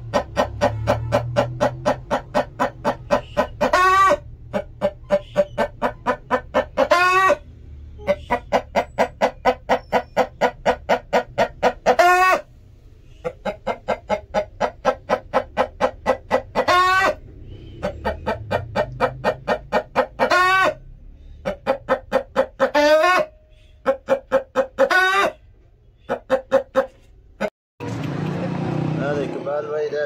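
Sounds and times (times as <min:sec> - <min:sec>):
chicken drawn-out call: 0:00.0 - 0:12.5, 0:13.1 - 0:25.5
chicken clucking: 0:00.0 - 0:27.5.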